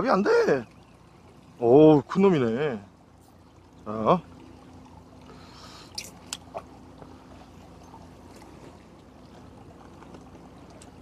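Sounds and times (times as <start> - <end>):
fishing boat engine rumble: 0.0 - 11.0.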